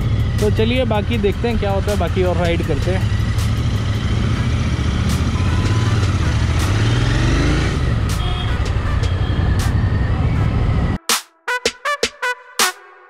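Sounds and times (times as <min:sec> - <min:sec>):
motorcycle engine low rumble: 0:00.0 - 0:10.9
surrounding traffic: 0:00.0 - 0:11.0.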